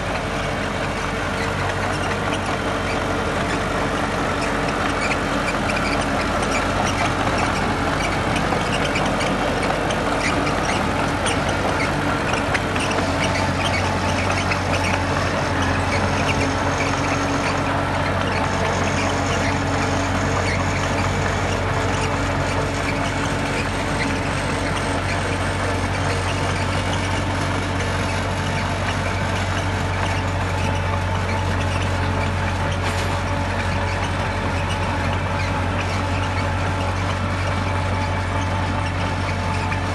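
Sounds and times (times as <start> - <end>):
diesel machinery engine hum: 0.0 - 39.9.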